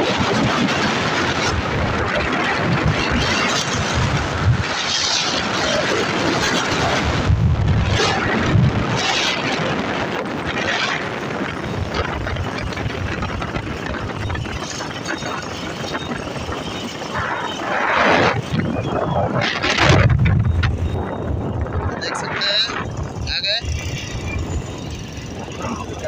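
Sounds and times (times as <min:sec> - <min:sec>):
motorcycle engine: 0:00.0 - 0:26.0
wind buffeting microphone: 0:00.0 - 0:26.0.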